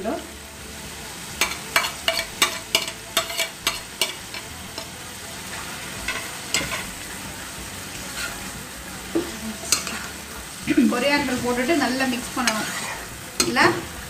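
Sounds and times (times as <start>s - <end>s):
gravy sizzling: 0.0s - 14.0s.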